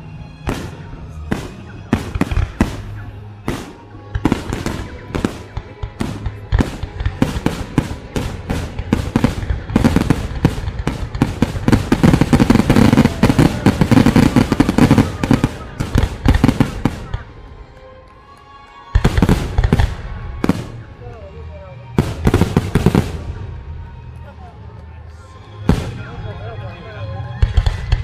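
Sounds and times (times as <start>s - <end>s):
music playing: 0.0s - 28.0s
fireworks bangs and crackles: 0.2s - 17.8s, 18.9s - 21.0s, 21.9s - 24.0s, 25.6s - 28.0s.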